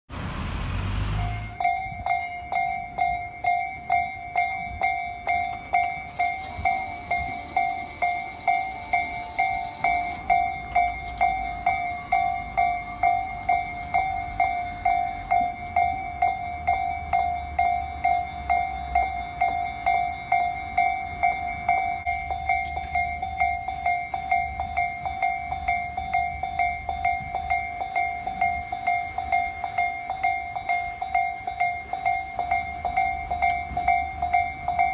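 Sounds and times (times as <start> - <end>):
level crossing alarm ringing: 1.1 - 34.9.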